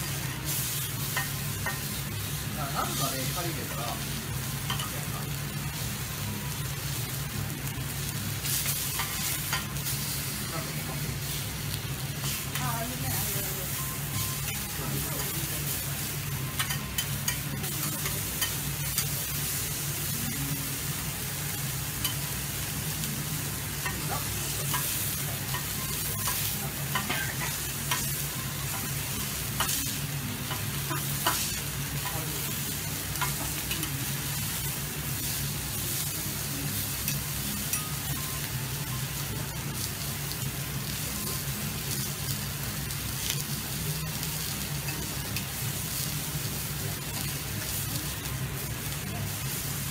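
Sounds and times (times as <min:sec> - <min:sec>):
steak sizzling on griddle: 0:00.0 - 0:49.9.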